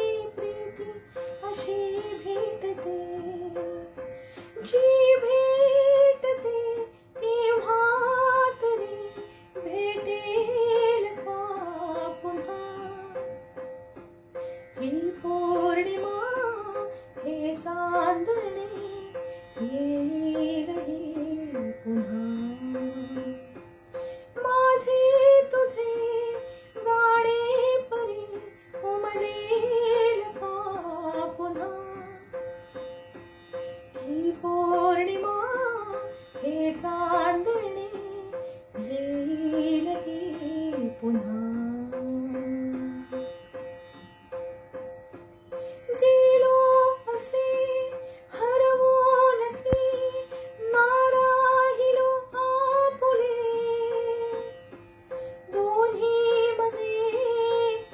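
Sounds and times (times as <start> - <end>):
woman singing: 0.0 - 13.5, 14.7 - 32.4, 33.9 - 43.3, 45.8 - 54.7, 55.4 - 57.9
instrumental accompaniment: 0.0 - 57.9.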